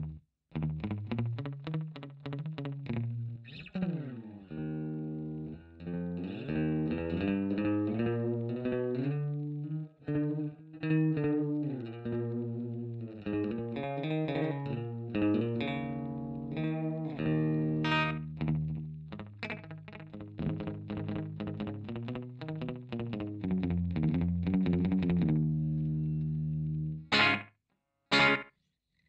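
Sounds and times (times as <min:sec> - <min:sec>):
electric guitar with slapback delay: 0:00.0 - 0:27.5, 0:28.1 - 0:28.5.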